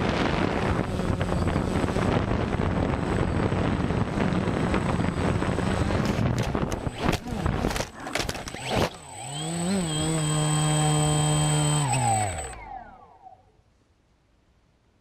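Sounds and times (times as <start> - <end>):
drone motors whining: 0.0 - 13.6.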